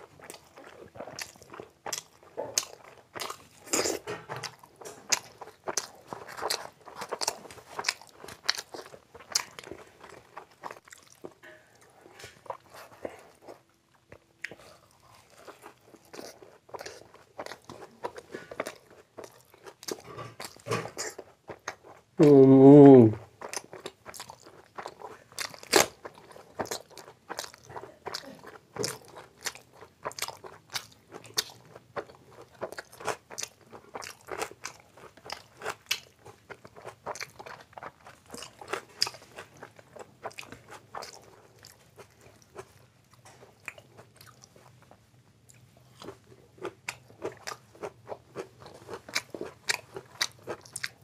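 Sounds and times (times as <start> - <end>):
man chewing and crunching food: 0.0 - 51.0.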